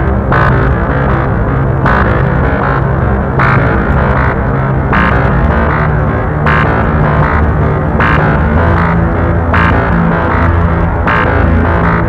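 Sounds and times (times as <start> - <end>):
steady bass line: 0.0 - 12.0.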